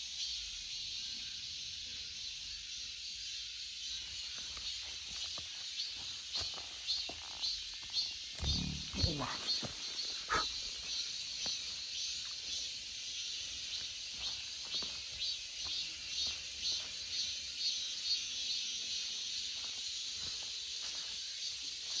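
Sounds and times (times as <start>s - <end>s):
cicadas buzzing in chorus: 0.0s - 22.0s.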